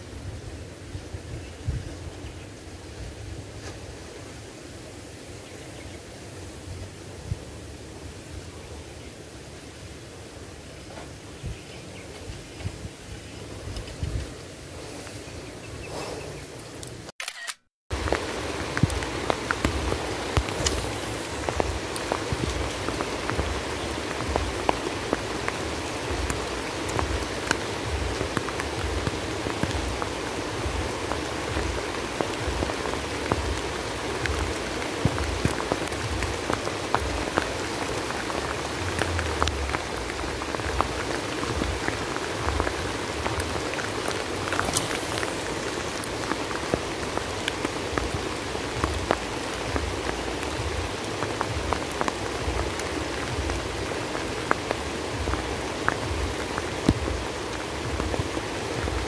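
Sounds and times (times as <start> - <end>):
heavy rain on a pond: 0.0 - 59.0.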